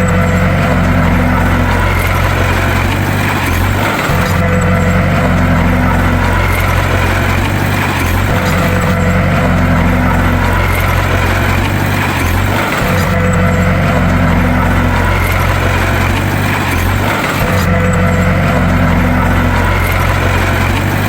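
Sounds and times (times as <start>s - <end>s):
bulldozer diesel engine: 0.0s - 21.0s.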